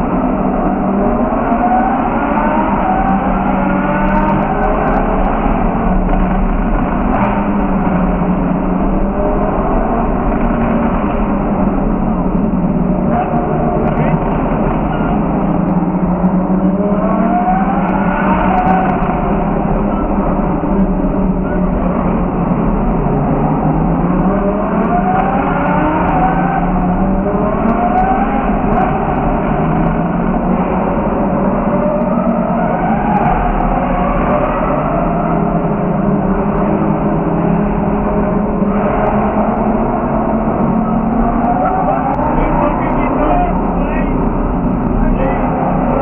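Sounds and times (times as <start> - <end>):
car engine and exhaust cruising: 0.0 - 46.0.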